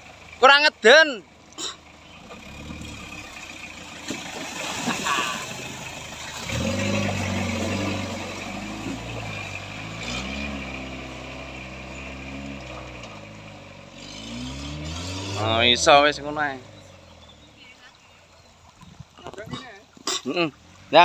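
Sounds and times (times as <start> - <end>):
truck engine revving: 0.0 - 18.1
tyres splashing through water: 2.2 - 21.0.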